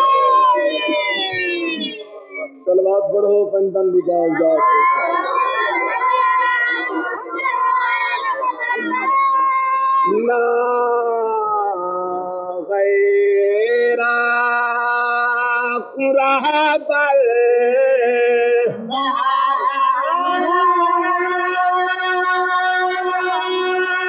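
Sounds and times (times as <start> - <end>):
man chanting: 0.0 - 24.0.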